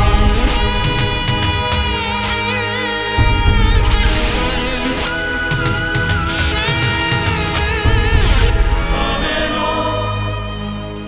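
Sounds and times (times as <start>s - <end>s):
heavy beat: 0.0s - 11.0s
strummed guitar: 0.0s - 11.0s.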